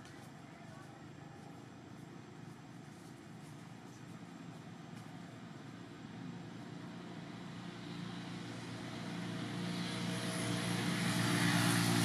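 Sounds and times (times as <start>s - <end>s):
vehicle engine approaching: 0.0s - 12.0s.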